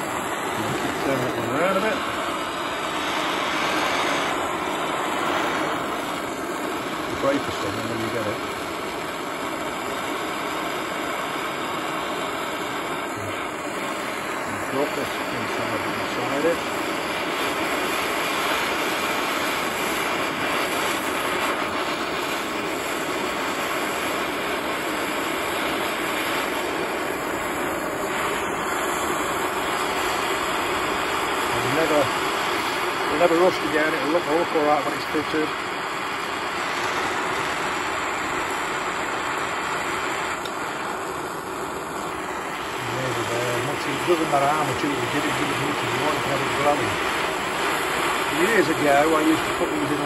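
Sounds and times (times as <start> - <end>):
gas torch flame roaring: 0.0 - 50.0.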